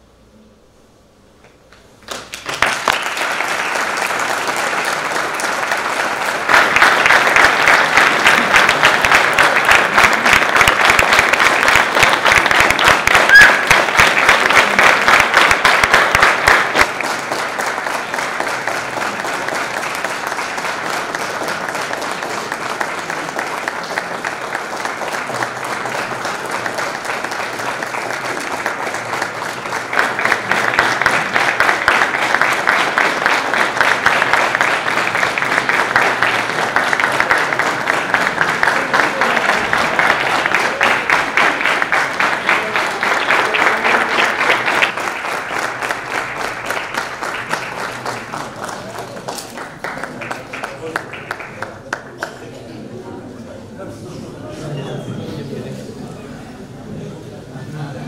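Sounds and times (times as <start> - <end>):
audience applauding: 2.0 - 52.8.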